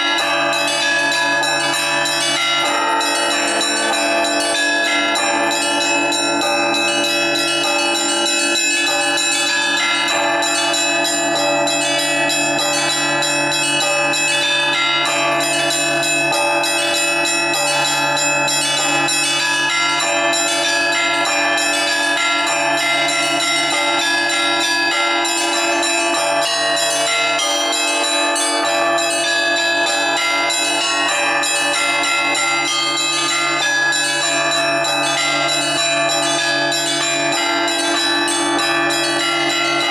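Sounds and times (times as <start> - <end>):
hum of larger bells: 0.0 - 39.9
small bells pealing: 0.0 - 39.9.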